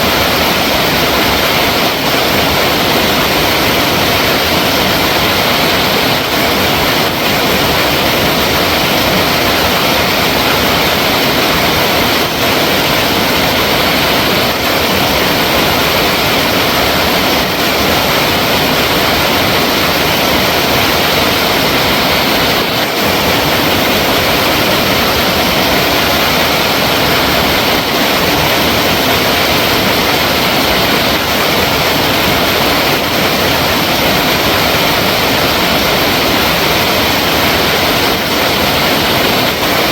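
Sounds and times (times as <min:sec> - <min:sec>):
water rushing steadily: 0:00.0 - 0:39.9.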